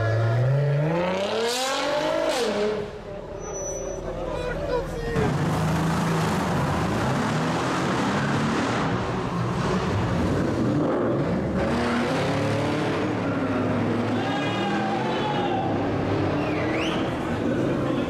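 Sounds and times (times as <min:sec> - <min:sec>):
sports car engines revving: 0:00.0 - 0:03.6, 0:05.1 - 0:17.9.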